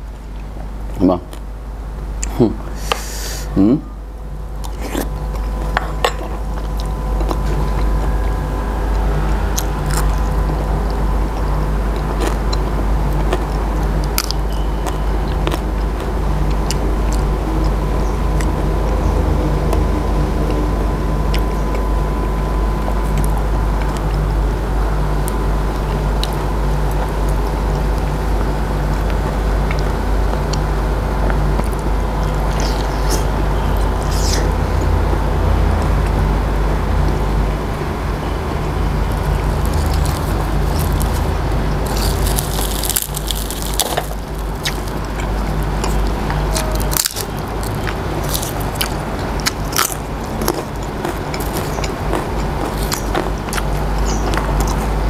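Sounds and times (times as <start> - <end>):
low engine drone: 0.0 - 55.0
person chewing: 4.6 - 24.3, 25.2 - 35.0, 38.6 - 55.0.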